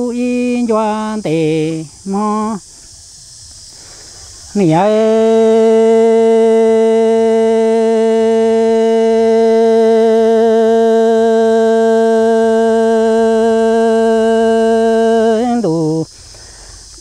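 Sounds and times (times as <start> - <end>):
person singing long note: 0.0 - 2.6, 4.5 - 16.1.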